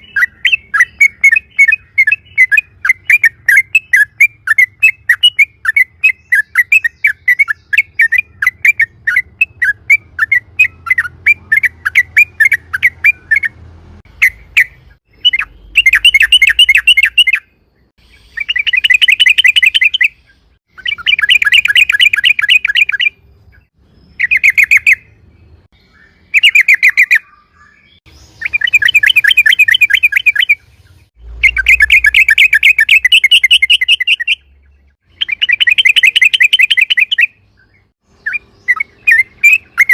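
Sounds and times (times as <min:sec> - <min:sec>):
bird sharp chirps: 0:00.0 - 0:39.9.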